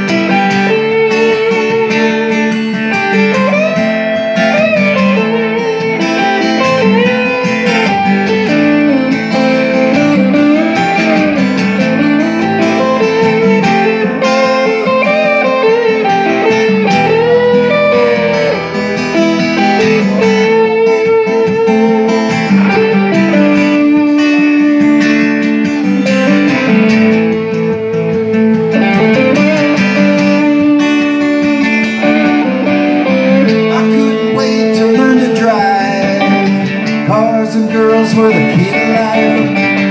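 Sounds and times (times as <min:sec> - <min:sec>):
electric guitar lead melody: 0:00.0 - 0:39.9
strummed guitar chords: 0:00.0 - 0:39.9.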